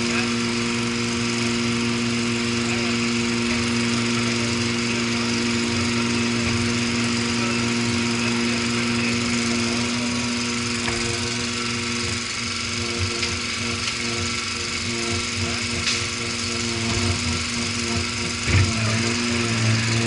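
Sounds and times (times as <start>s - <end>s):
machine engine droning: 0.0s - 20.0s.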